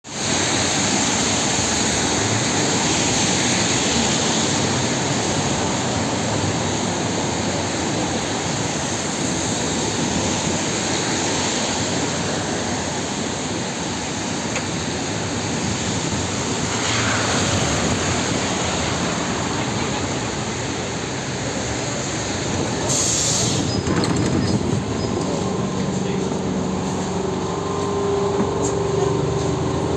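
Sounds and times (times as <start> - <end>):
trolleybus road noise: 0.0 - 29.9.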